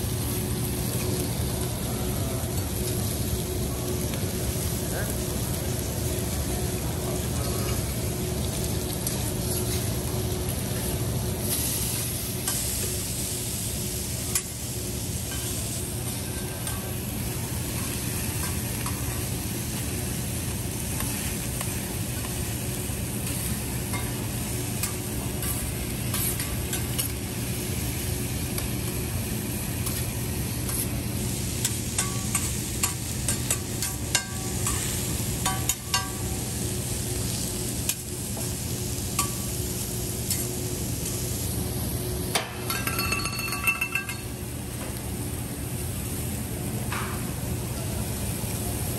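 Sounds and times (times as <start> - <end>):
food sizzling on a griddle: 0.0 - 48.9.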